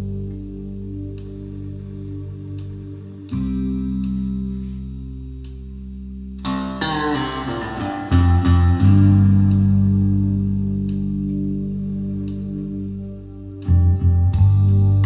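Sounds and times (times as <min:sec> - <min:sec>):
guitar music over loudspeakers: 0:00.0 - 0:15.0.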